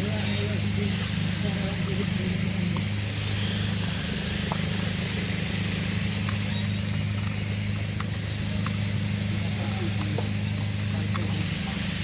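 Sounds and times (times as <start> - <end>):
constant hiss: 0.0 - 12.0
engine humming: 0.0 - 12.0.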